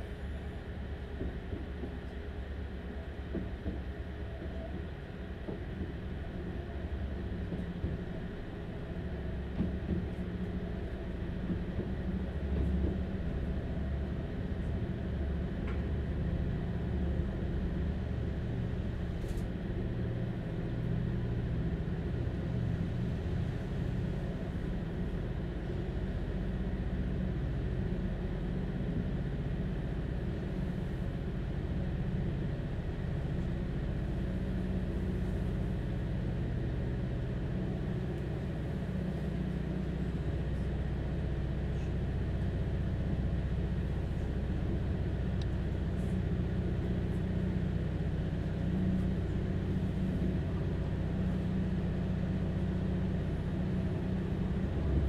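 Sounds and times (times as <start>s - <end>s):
diesel engine drone: 0.0s - 55.0s
train running rumble: 0.0s - 55.0s.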